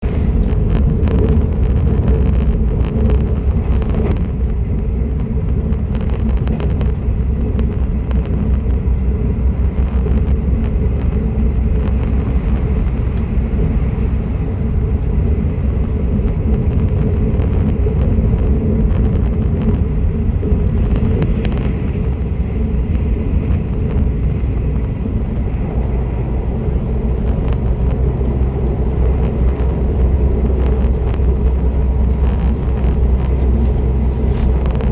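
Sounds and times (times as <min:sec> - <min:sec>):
train wheels rumbling: 0:00.0 - 0:34.9.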